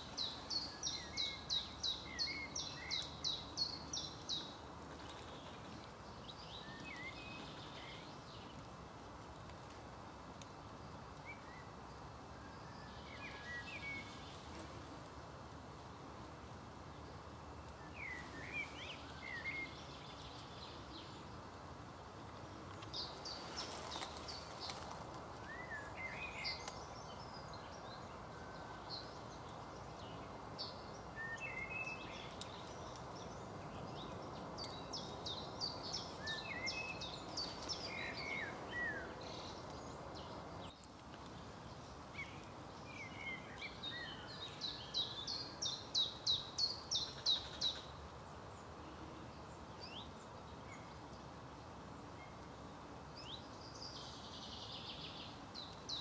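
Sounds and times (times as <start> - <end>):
songbirds chirping: 0.0 - 56.0
steady background hiss: 0.0 - 56.0.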